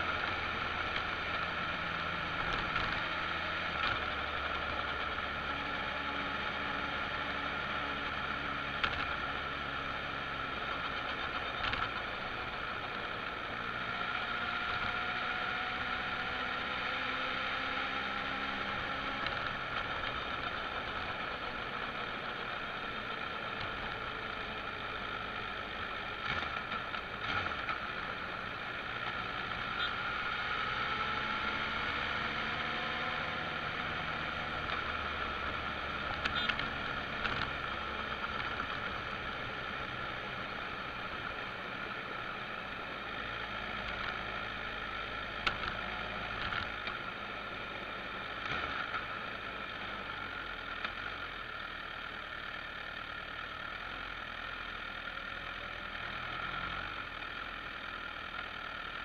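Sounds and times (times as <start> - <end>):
motorcycle engine accelerating: 0.0 - 59.0
wind and road noise: 0.0 - 59.0.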